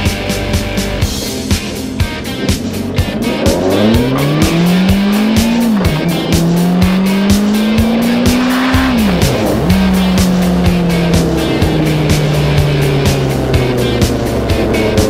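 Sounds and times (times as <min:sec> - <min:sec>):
motorcycle engine accelerating: 0:00.0 - 0:15.0
music with steady beat: 0:00.0 - 0:15.0.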